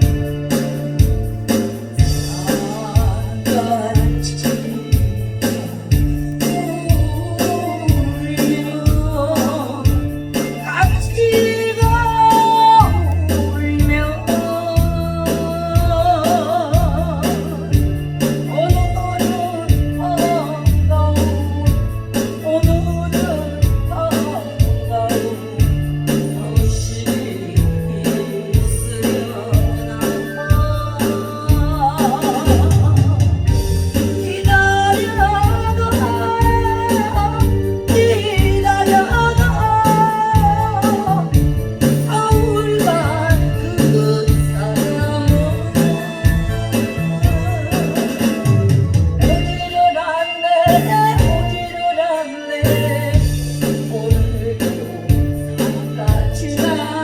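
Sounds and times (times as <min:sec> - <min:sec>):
drum beat: 0:00.0 - 0:50.0, 0:50.7 - 0:51.8, 0:52.7 - 0:57.0
bass line: 0:00.0 - 0:52.0, 0:52.6 - 0:57.0
person singing with vibrato: 0:00.0 - 0:57.0.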